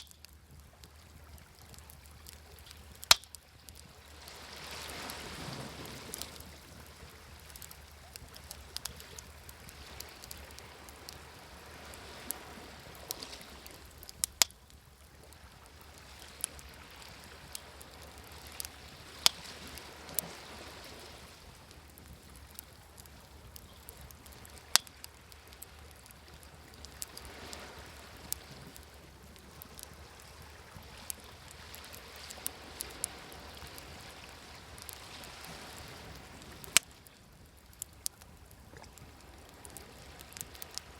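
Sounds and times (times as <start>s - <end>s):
wood fire crackling and popping: 0.0s - 40.9s
ocean waves washing: 0.8s - 14.5s, 15.2s - 40.9s.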